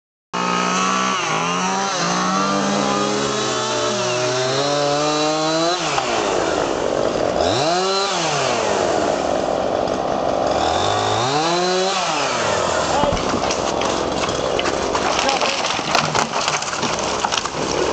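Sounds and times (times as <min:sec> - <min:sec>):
chainsaw cutting tree trunk: 0:00.4 - 0:17.9.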